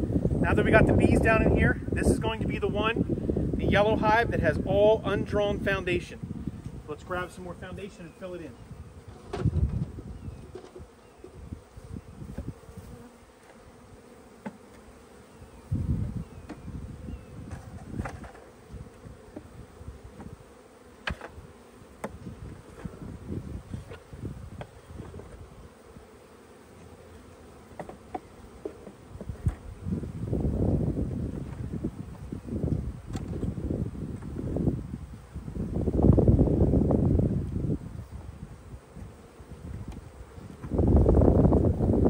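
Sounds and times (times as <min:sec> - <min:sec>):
wind on microphone: 0:00.0 - 0:07.9, 0:08.6 - 0:13.1, 0:15.5 - 0:20.5, 0:22.1 - 0:26.1, 0:29.1 - 0:42.0
bees buzzing: 0:00.0 - 0:42.0.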